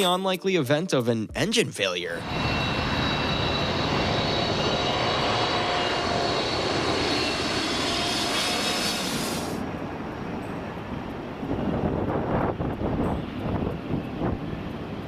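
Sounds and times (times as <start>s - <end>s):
faint steady whines: 2.2s - 15.0s
jet engine rushing noise: 2.2s - 15.0s.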